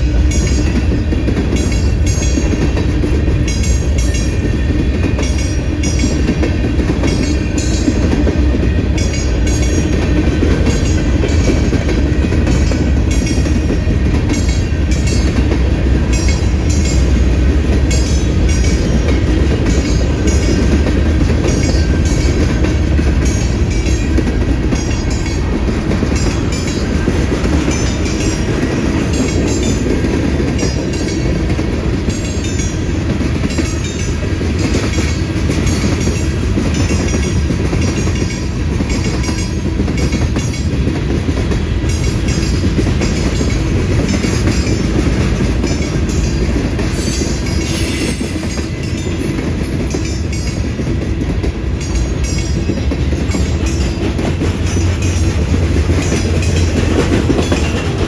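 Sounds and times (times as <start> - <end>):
freight train cars rumbling: 0.0 - 58.0
wheels clacking over rail joints: 0.0 - 58.0.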